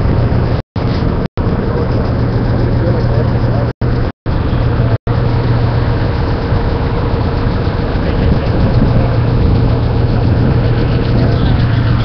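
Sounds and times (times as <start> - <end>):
race car engines idling: 1.1 - 12.0.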